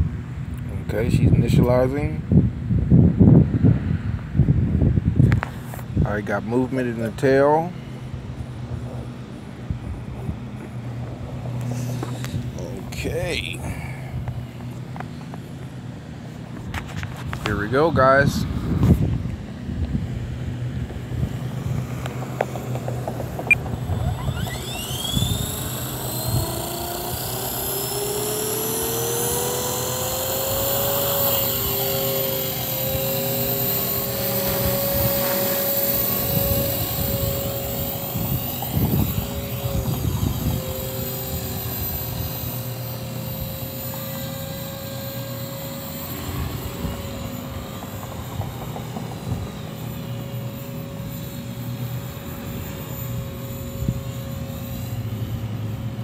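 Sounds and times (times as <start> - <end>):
wind rumbling on microphone: 0.0 - 6.4, 8.0 - 14.9, 16.4 - 50.2, 51.0 - 55.6
rc helicopter motor and rotor whine: 0.0 - 56.0.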